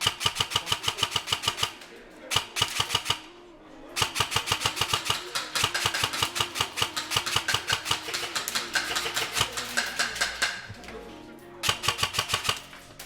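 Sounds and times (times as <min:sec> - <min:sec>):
airsoft rifle firing: 0:00.0 - 0:03.4, 0:04.0 - 0:10.8, 0:11.6 - 0:12.8.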